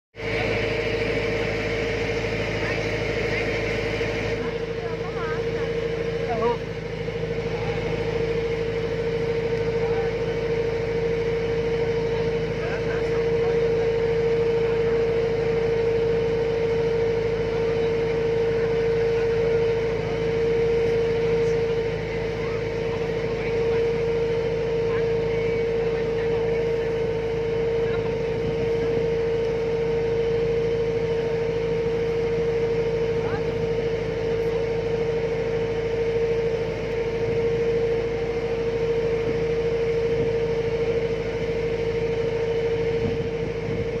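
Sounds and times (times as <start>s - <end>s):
boat engine running steadily: 0.1s - 44.0s.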